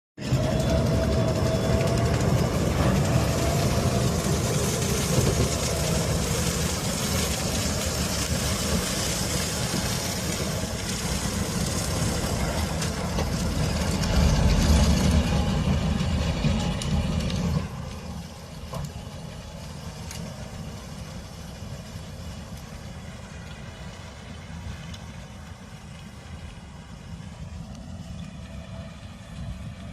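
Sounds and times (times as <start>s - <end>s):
harvesting machine engine rumbling: 0.2s - 29.9s.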